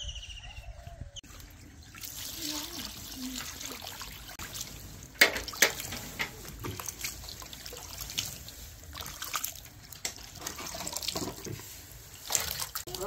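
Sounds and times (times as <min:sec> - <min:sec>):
water trickling and splashing: 0:01.2 - 0:13.0.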